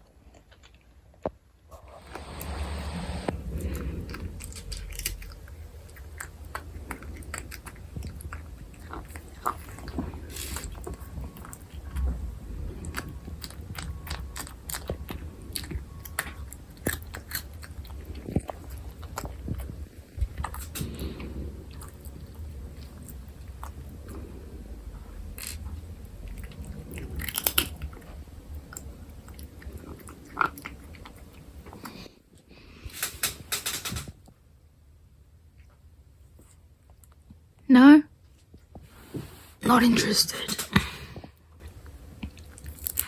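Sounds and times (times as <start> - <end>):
food being bitten and chewed: 0.0 - 2.7, 3.3 - 33.4, 40.7 - 43.0.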